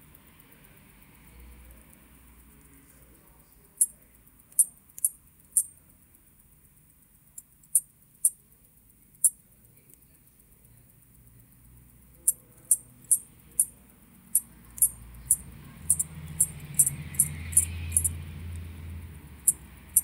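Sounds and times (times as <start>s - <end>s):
watch crown clicks: 3.6s - 20.0s.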